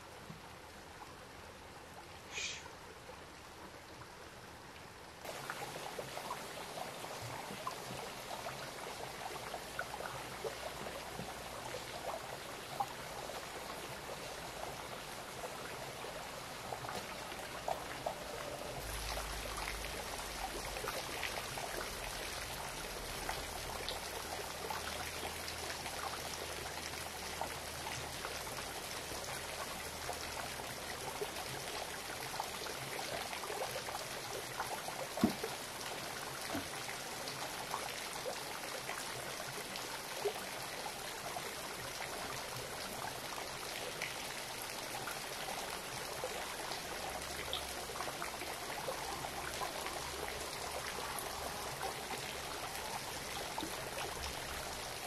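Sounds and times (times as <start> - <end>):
running water rushing: 5.3 - 55.0.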